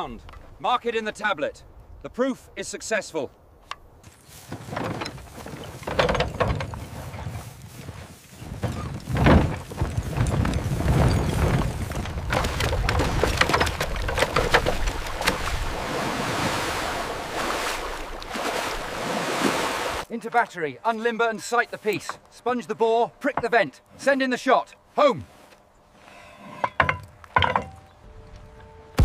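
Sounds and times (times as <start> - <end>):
wooden wheels over rough ground: 4.0 - 18.8, 20.0 - 29.0.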